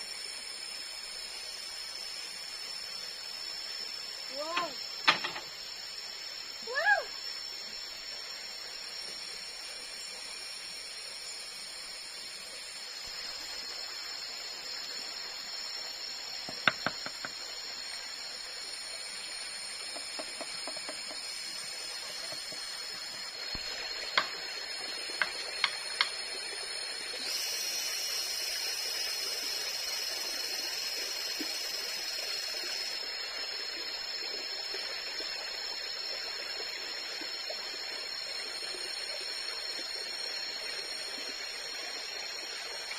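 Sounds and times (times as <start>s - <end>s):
insect chorus: 0.0s - 42.9s
running water hiss: 0.0s - 42.9s.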